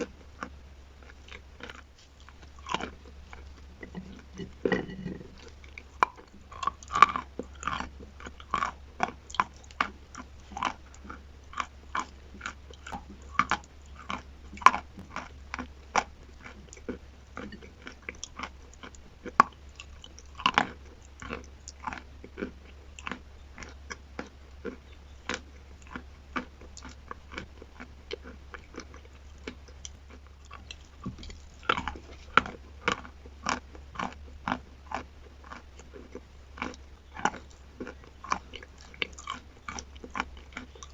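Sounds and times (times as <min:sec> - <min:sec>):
chewing crunches: 0:00.0 - 0:40.9
steady low hum: 0:00.0 - 0:40.9.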